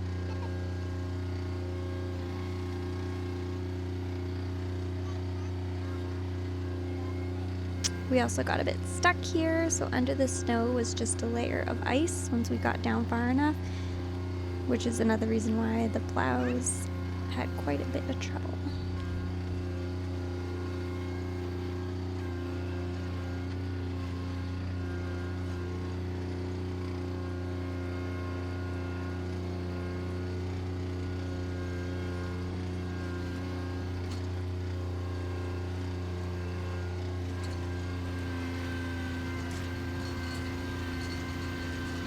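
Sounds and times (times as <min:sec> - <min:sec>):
tractor engine humming: 0:00.0 - 0:42.0.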